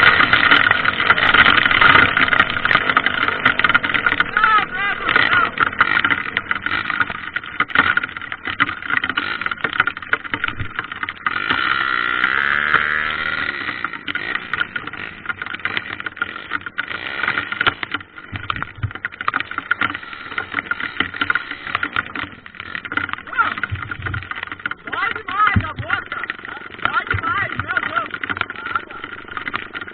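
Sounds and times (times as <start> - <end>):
knocks and rattles: 0.0 - 29.9
motorcycle engine running: 0.0 - 29.9.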